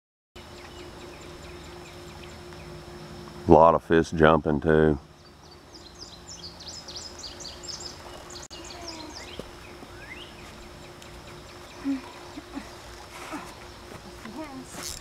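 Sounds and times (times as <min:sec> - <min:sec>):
birds twittering: 0:00.4 - 0:15.0
steady low hum: 0:00.4 - 0:15.0.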